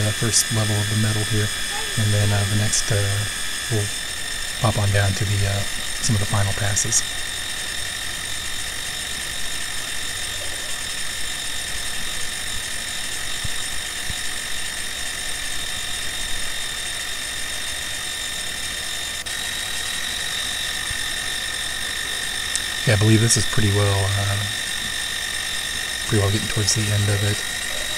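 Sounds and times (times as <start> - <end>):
milling machine cutting metal: 0.0 - 27.9.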